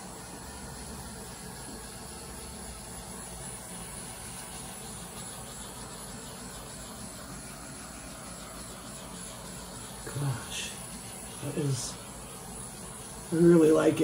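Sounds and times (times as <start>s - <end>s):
butane torch hissing: 0.0s - 14.0s.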